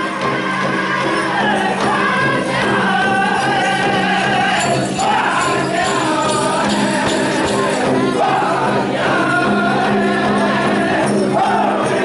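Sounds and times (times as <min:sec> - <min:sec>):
drum group singing in unison: 0:00.0 - 0:12.0
jingling bells: 0:00.0 - 0:12.0.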